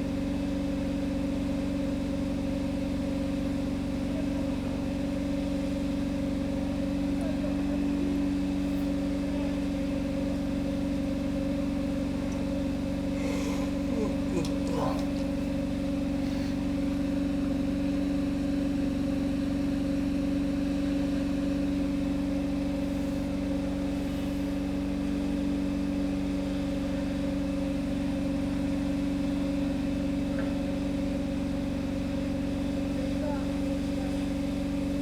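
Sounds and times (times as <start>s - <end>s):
engine idling hum: 1.0s - 35.0s.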